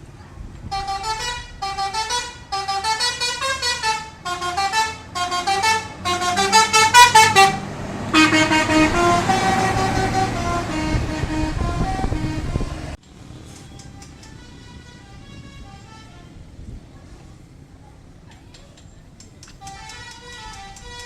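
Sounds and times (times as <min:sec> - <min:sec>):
bus engine rumbling: 0:00.0 - 0:21.0
bus musical horns: 0:00.6 - 0:16.7, 0:19.6 - 0:21.0.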